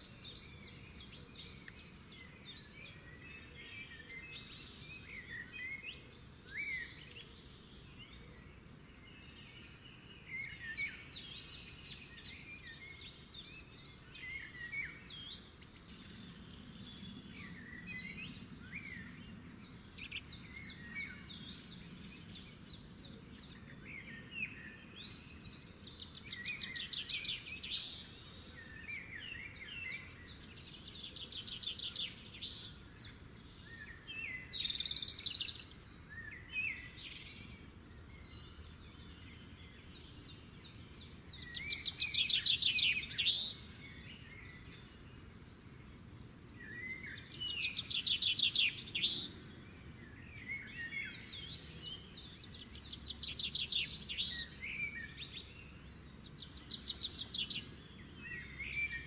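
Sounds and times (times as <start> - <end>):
birds chirping: 0.0 - 59.0
low background noise: 0.0 - 59.0.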